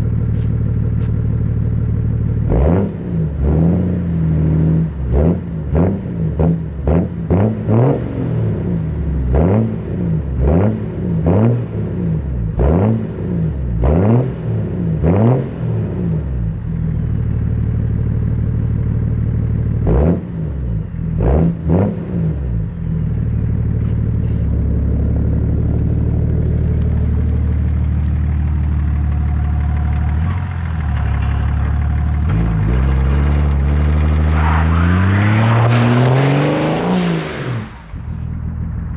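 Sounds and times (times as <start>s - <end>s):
diesel engine revving: 1.7s - 16.6s, 19.7s - 38.9s.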